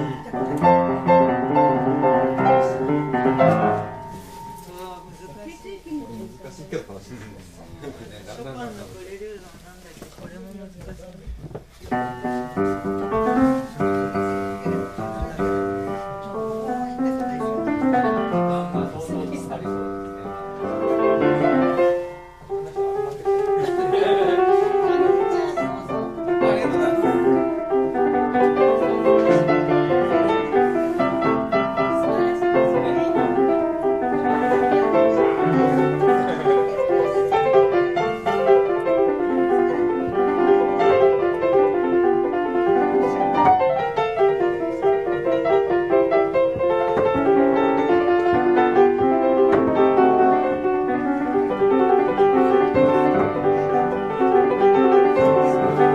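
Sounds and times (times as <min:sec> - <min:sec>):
upright piano playing: 0:00.0 - 0:09.4, 0:11.8 - 0:55.9.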